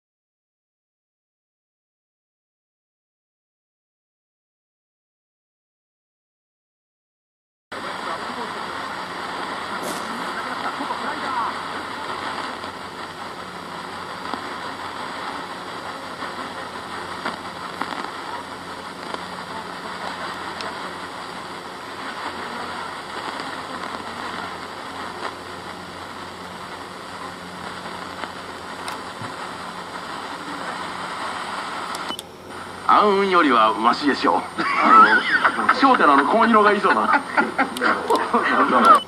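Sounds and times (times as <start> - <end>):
radio static hiss: 7.7 - 39.0.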